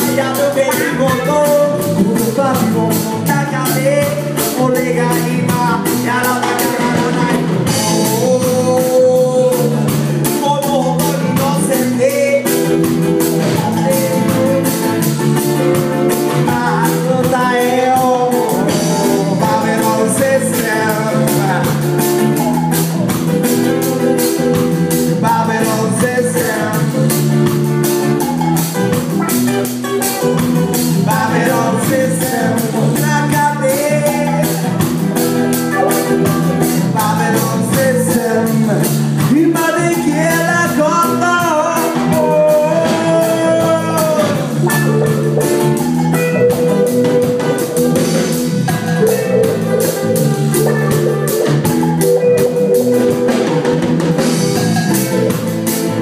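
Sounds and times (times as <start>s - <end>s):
man singing: 0.0s - 29.0s, 30.0s - 56.0s
acoustic guitar: 0.0s - 56.0s
congas: 0.0s - 56.0s
drum kit beat: 0.0s - 56.0s
electric guitar: 0.0s - 56.0s.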